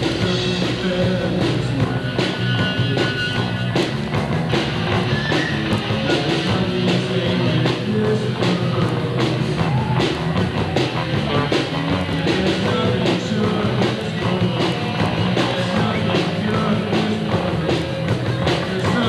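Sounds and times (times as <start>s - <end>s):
drum kit steady beat: 0.0s - 19.0s
electric guitars: 0.0s - 19.0s.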